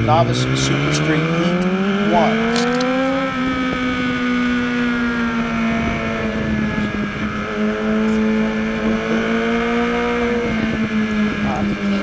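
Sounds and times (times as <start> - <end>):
motorcycle engine at high revs: 0.0 - 12.0
wind rush: 1.2 - 12.0.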